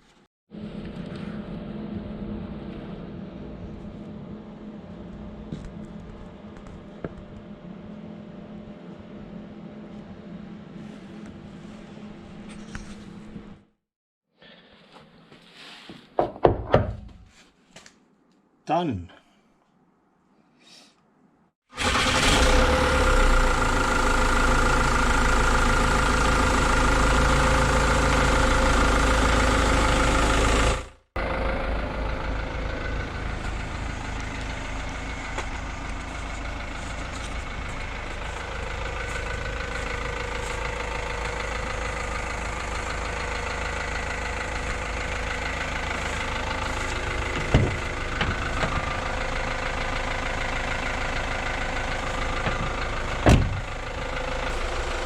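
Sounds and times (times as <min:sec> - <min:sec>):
engine running: 0:00.5 - 0:13.6, 0:21.8 - 0:55.0
quieter engine with low pulsing: 0:00.6 - 0:13.5, 0:22.2 - 0:55.0.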